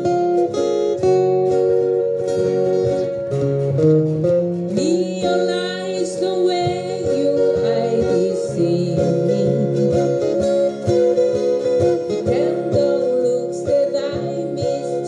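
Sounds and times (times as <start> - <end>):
acoustic guitars strumming: 0.0 - 15.0
guitar melody line: 0.0 - 15.0.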